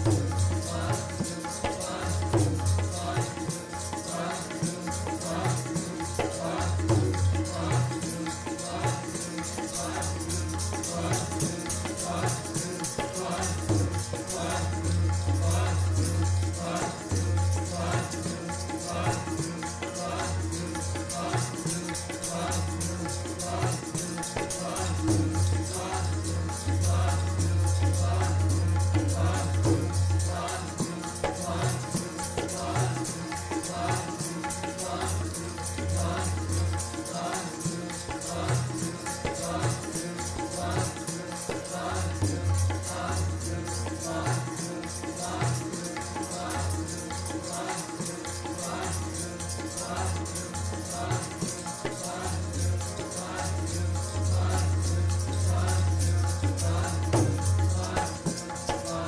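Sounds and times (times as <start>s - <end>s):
harmonium: 0.0s - 59.0s
jingling hand percussion: 0.0s - 59.0s
tabla: 0.0s - 59.0s.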